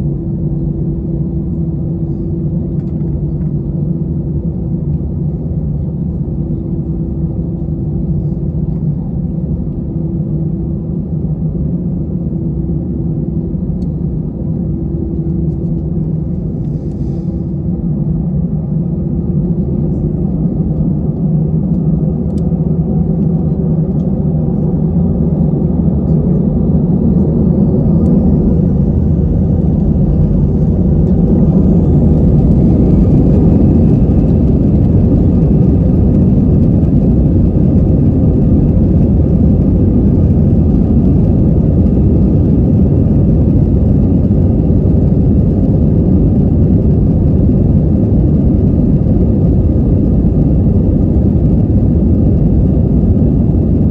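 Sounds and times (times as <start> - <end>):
jet engine whine rising: 0.0 - 53.9
loud jet engine rumble: 0.0 - 53.9.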